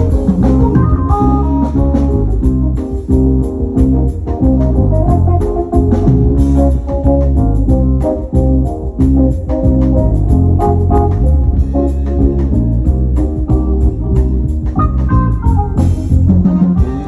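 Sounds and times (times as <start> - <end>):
drums with cymbal beat: 0.0 - 17.0
heavy bass: 0.0 - 17.0
organ keyboard chords: 0.0 - 17.0.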